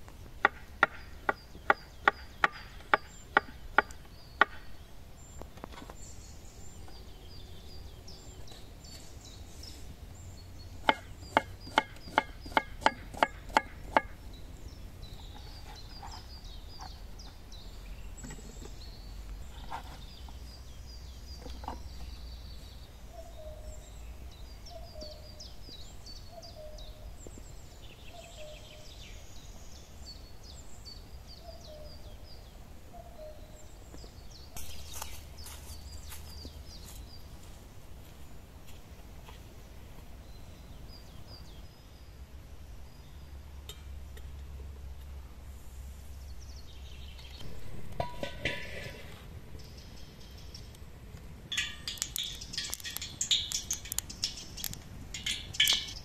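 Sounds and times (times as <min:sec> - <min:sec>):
birds chirping: 0:00.0 - 0:45.3, 0:46.0 - 0:56.0.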